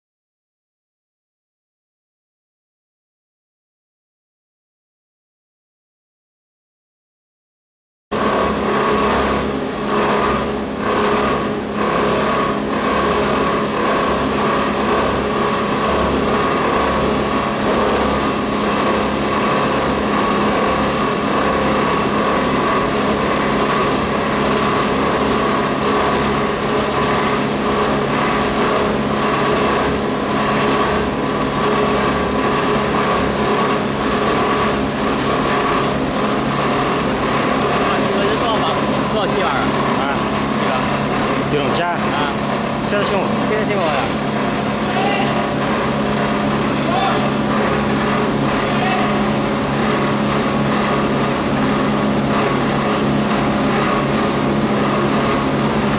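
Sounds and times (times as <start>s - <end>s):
machine drone: 8.1s - 55.9s.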